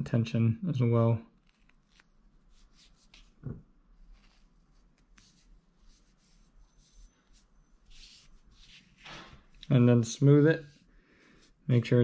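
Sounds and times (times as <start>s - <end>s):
tape rustling against skin: 1.3s - 11.7s.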